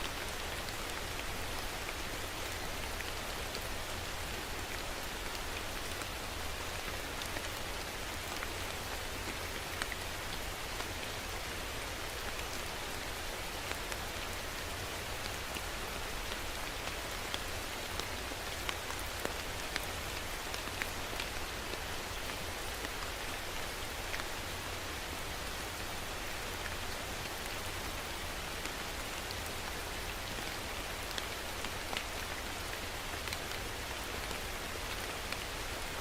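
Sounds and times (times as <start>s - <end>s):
rain hiss: 0.0s - 36.0s
raindrops ticking close by: 0.0s - 36.0s.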